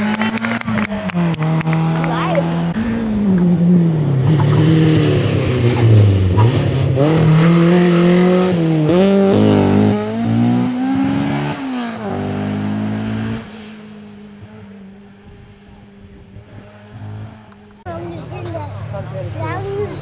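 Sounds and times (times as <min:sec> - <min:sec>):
rally car engine accelerating: 0:00.0 - 0:20.0.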